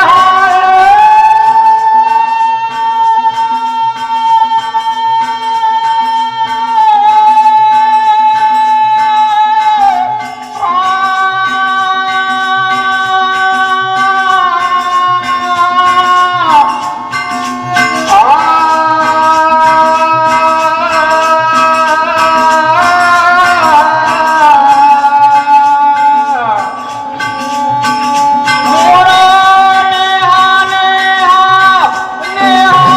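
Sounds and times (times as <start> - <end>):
hand drum rhythm: 0.0 - 32.9
harmonium: 0.0 - 32.9
jingling percussion: 0.0 - 32.9.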